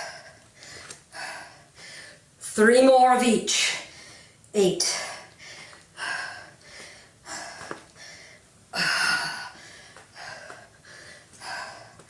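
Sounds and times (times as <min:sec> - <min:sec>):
woman breathing hard: 0:00.0 - 0:02.4, 0:03.9 - 0:12.0.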